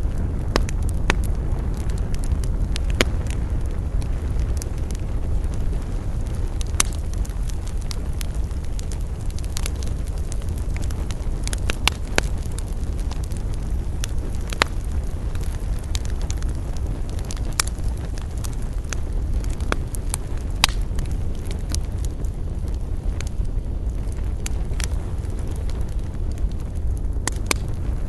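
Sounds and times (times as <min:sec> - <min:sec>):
campfire crackling and popping: 0:00.0 - 0:28.0
steady low rumble: 0:00.0 - 0:28.0.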